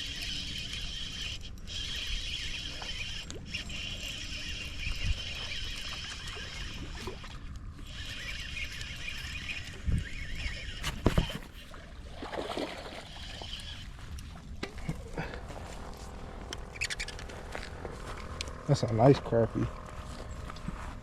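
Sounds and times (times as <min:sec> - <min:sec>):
fishing reel whirring: 0:00.0 - 0:21.0.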